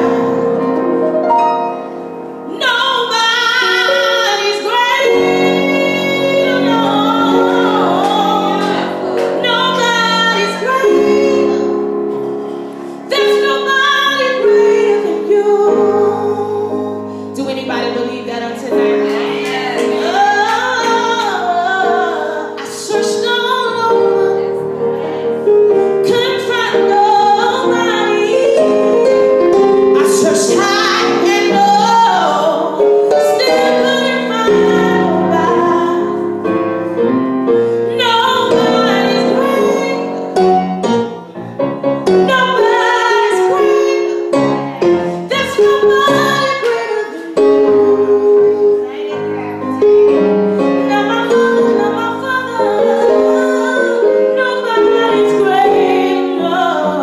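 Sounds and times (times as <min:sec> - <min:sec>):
woman singing into a microphone: 0:00.0 - 0:00.9, 0:02.5 - 0:36.6, 0:37.8 - 0:40.4, 0:42.2 - 0:57.0
piano accompaniment: 0:00.0 - 0:57.0.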